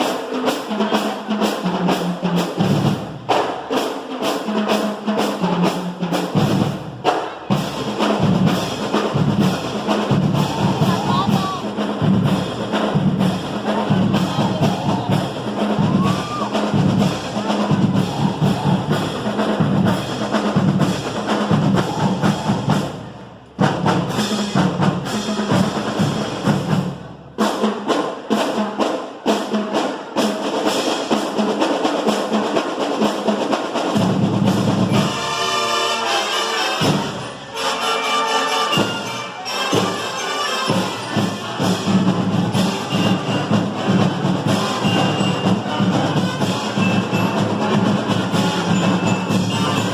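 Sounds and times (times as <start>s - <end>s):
drums beating: 0.0s - 37.8s, 38.6s - 49.9s
marching band playing: 0.0s - 49.9s.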